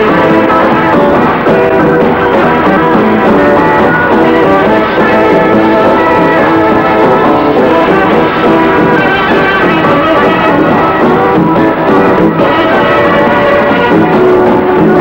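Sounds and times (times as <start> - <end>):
instrumental dance music: 0.0 - 15.0.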